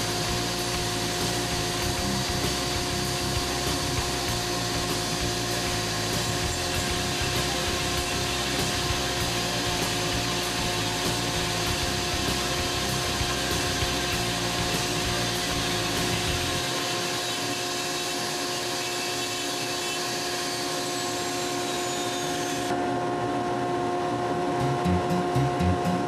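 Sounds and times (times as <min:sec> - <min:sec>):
rotary burr grinding wood: 0:00.0 - 0:22.8
dust-collector vacuum whirring: 0:00.0 - 0:26.0.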